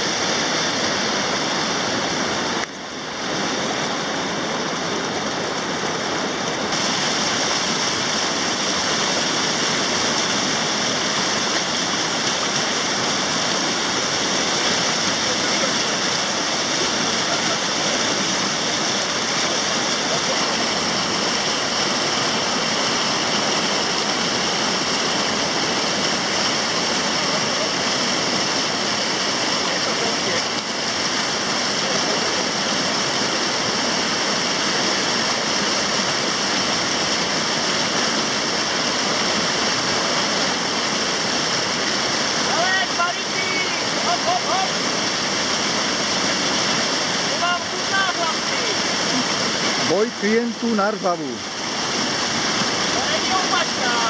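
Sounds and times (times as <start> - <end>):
rushing river rapids: 0.0 - 54.0.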